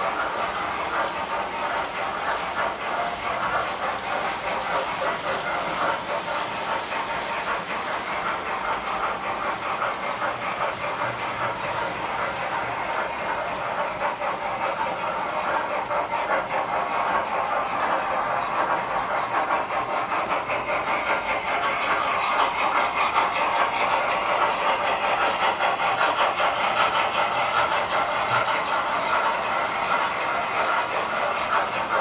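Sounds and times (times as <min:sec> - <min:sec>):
model trains rattling on track: 0:00.0 - 0:32.0.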